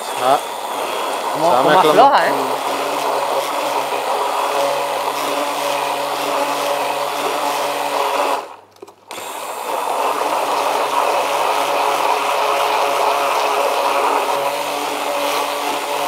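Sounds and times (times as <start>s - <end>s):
immersion blender motor whine: 0.0s - 16.0s.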